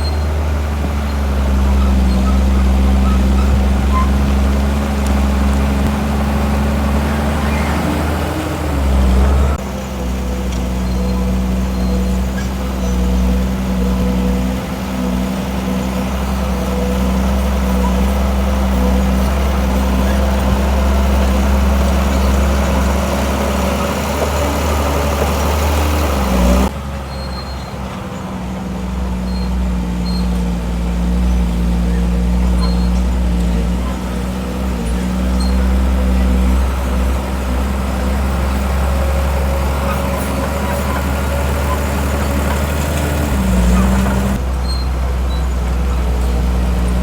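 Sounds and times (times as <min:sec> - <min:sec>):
heavy machinery diesel engine: 0:00.0 - 0:47.0.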